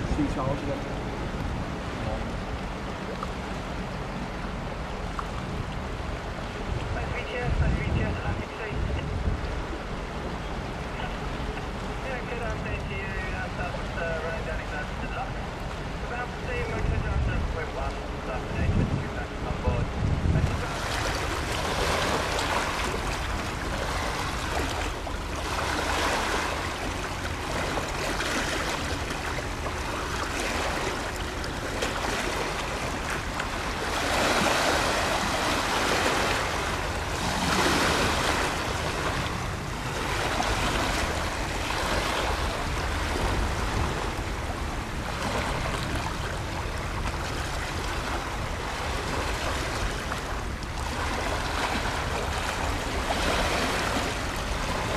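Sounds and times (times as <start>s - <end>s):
choppy river water: 0.0s - 54.9s
wind rumble on microphone: 0.0s - 54.9s.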